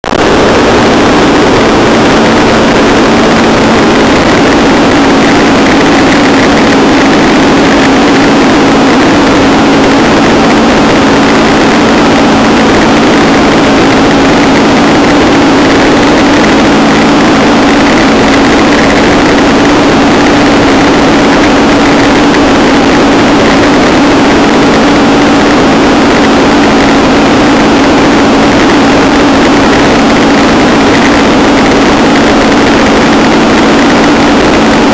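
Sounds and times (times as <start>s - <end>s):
paramotor engine drone: 0.0s - 34.9s
wind rushing on microphone: 0.1s - 34.9s.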